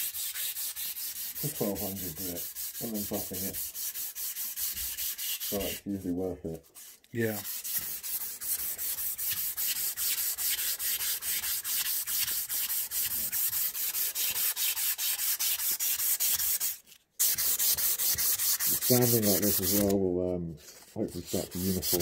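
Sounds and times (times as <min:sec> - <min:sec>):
sandpaper rasping on handle: 0:00.0 - 0:20.0, 0:20.6 - 0:22.0.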